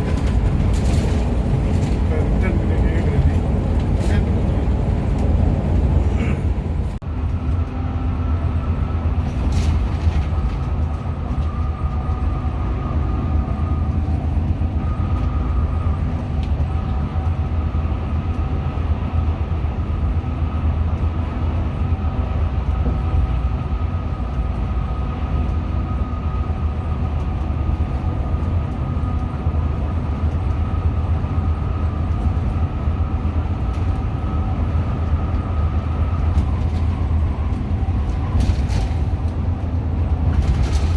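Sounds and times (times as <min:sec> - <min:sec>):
coach engine and road rumble: 0:00.0 - 0:40.9.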